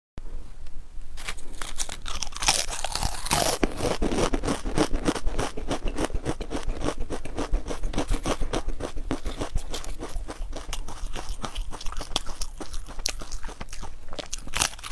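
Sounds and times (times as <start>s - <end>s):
potato chips crunching: 1.2s - 14.9s.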